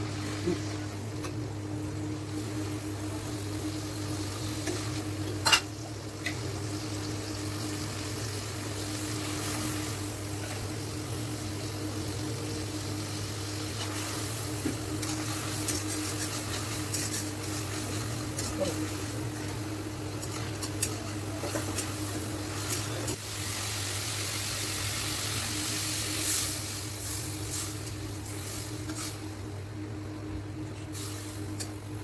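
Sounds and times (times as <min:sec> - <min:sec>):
paste sizzling in a metal pan: 0:02.3 - 0:29.3.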